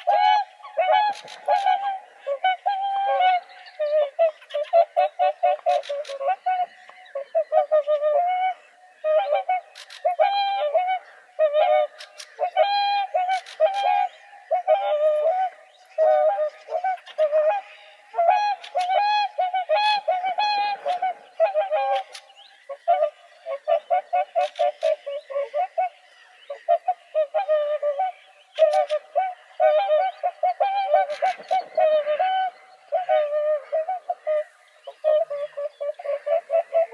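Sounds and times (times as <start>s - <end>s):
swans honking: 0.0s - 36.9s.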